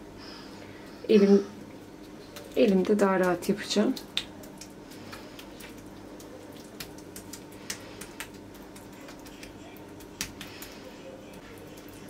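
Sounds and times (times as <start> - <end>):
low steady hum: 0.0 - 12.0
fingers squishing minced meat: 1.7 - 12.0.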